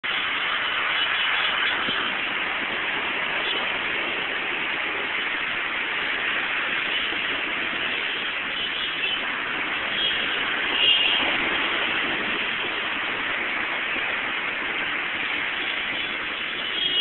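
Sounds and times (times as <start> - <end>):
heavy rain on road: 0.0 - 17.0
road traffic passing: 0.0 - 17.0.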